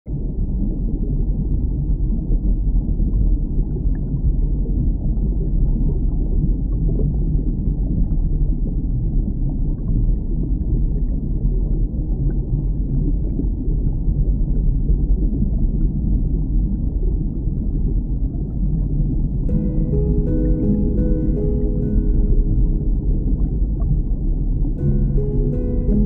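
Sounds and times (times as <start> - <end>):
underwater rumble of moving water: 0.1 - 26.0.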